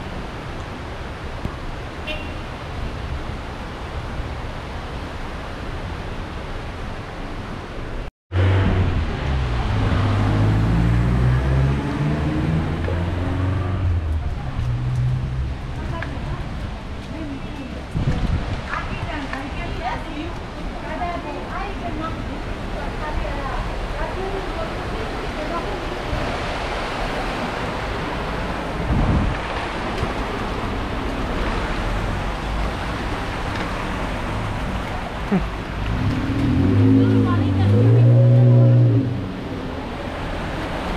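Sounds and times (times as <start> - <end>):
cars driving through floodwater: 0.0 - 40.9
floodwater rushing and swirling: 0.0 - 40.9.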